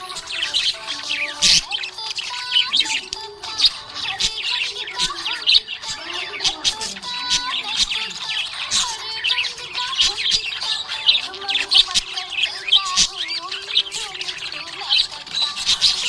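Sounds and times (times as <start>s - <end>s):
budgies chirping: 0.0s - 16.0s
sharp clicks: 0.0s - 16.0s.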